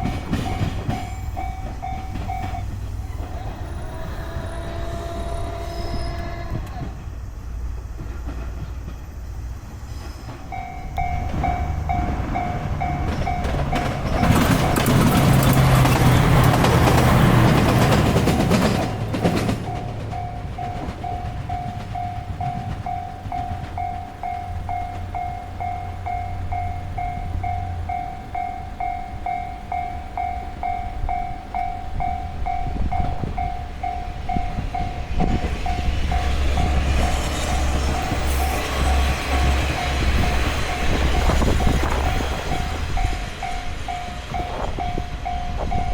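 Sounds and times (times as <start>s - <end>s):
train passing: 0.0s - 45.9s.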